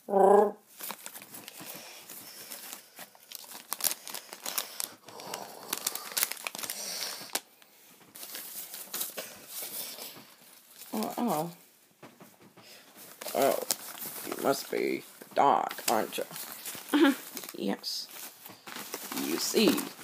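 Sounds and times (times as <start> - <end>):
paper rustling and crinkling: 0.7 - 20.0
sharp paper crackles: 0.7 - 20.0.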